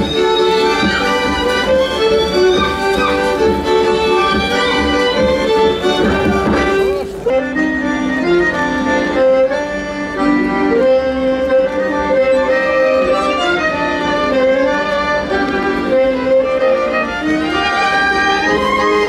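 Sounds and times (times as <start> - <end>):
accordion melody: 0.0 - 19.0
fiddle: 0.0 - 19.0.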